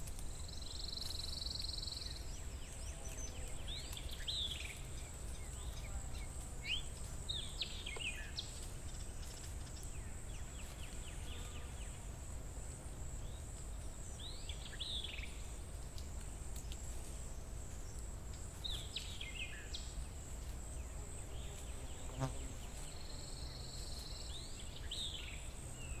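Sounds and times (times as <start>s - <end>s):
high insect trill: 0.0s - 26.0s.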